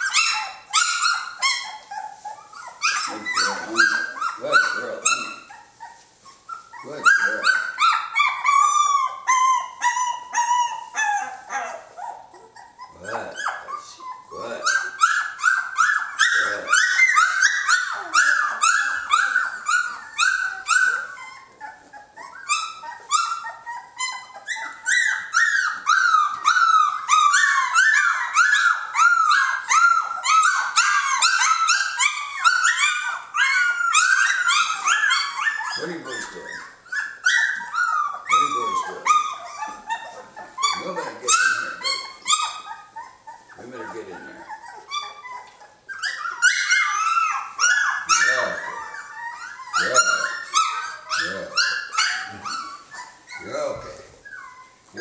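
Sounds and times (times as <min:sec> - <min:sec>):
puppies whining and crying: 0:00.0 - 0:55.0.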